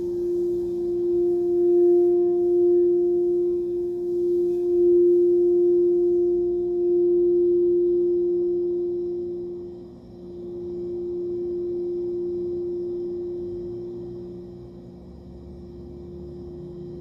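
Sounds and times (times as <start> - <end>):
singing bowl sustained tone: 0.0 - 17.0.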